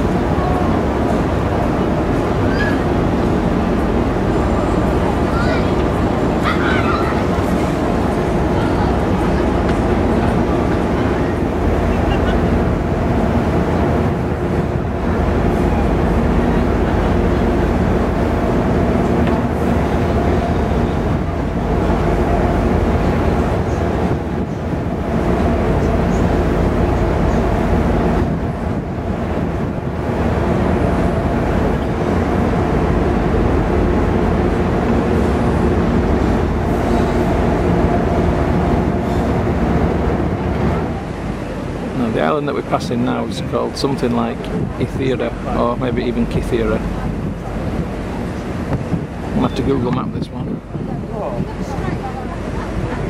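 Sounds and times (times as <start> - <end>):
ship engines droning: 0.0 - 53.0.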